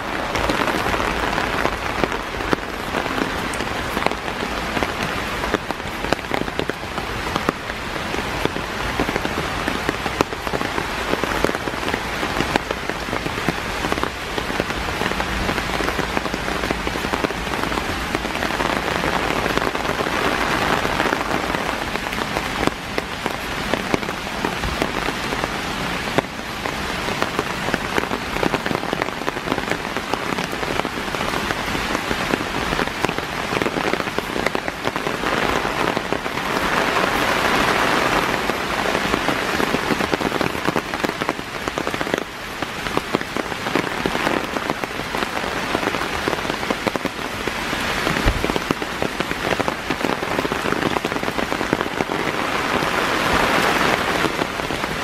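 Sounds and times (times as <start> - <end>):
heavy rain in trees: 0.0 - 55.0.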